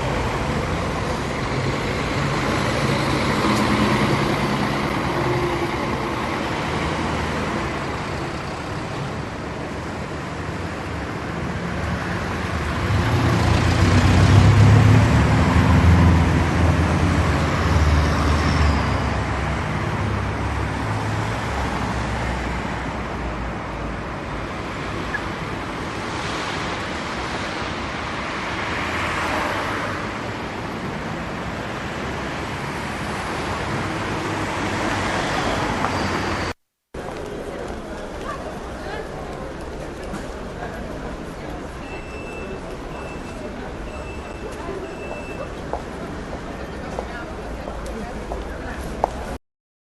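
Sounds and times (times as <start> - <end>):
road traffic noise: 0.0 - 49.4.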